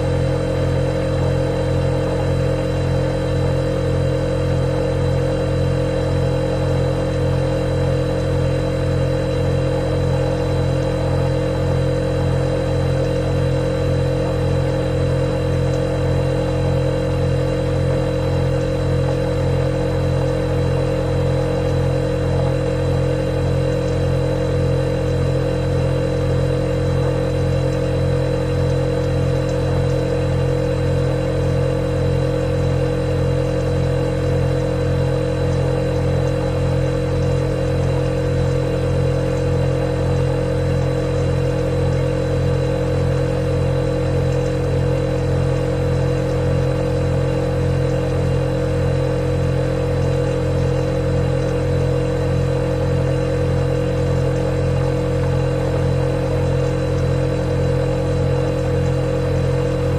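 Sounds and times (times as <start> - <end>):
refrigerator humming: 0.0 - 59.9.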